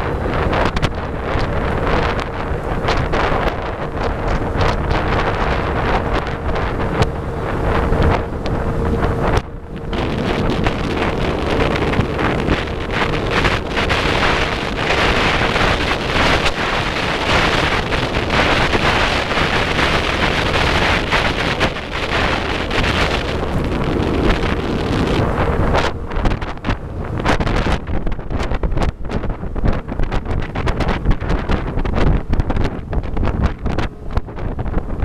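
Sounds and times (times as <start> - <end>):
faint engine hum: 0.0 - 35.0
motorboat rushing on water: 0.0 - 35.0
wind buffeting the microphone: 0.0 - 35.0.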